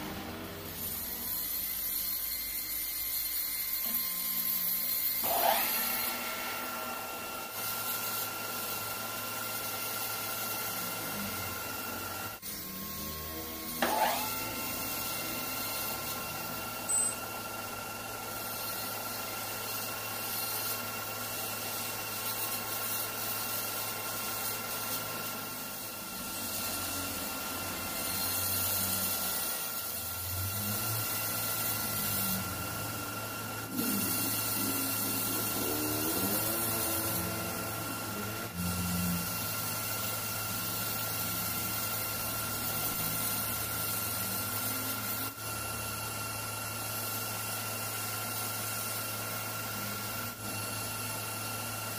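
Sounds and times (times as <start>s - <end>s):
hiss of cutting tool: 0.0s - 51.9s
metal lathe humming and whining: 0.0s - 51.9s.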